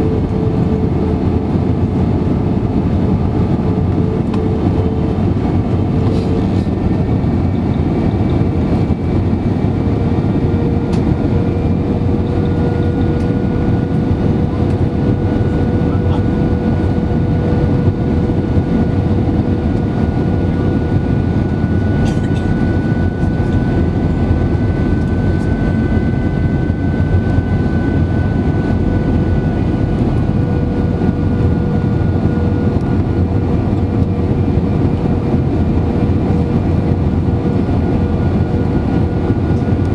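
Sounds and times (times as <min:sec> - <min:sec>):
constant cabin hum: 0:00.0 - 0:39.9
jet engine and airflow roar: 0:00.0 - 0:39.9.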